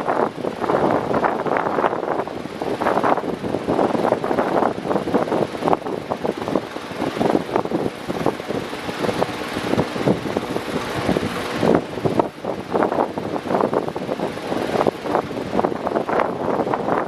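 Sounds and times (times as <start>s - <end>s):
electric fan running: 0.0s - 17.0s.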